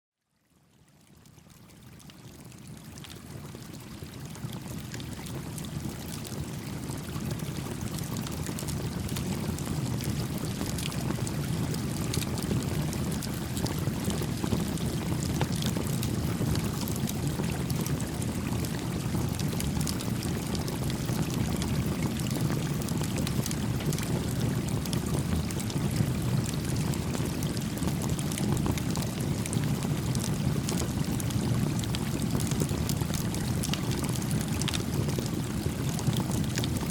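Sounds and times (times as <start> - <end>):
small stream flowing: 0.6 - 36.9.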